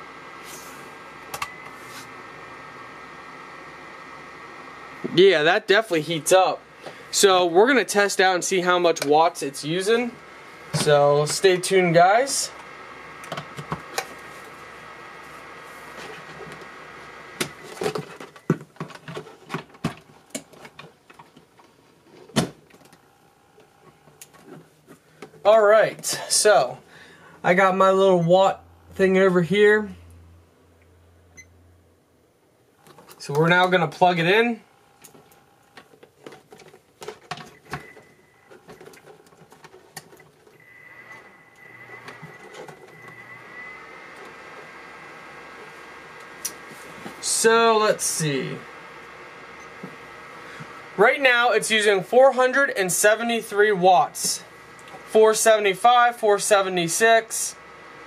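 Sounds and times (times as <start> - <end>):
fan heater whine: 0.0 - 58.0.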